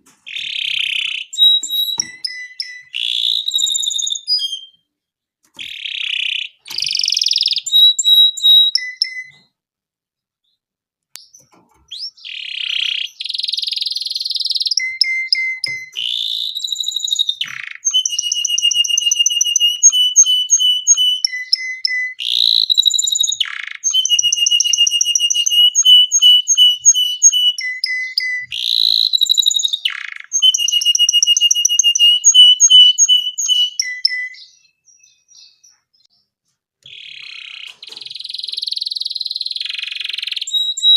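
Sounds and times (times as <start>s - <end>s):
canary singing trills: 0.2s - 4.9s, 5.6s - 9.5s, 11.2s - 40.9s.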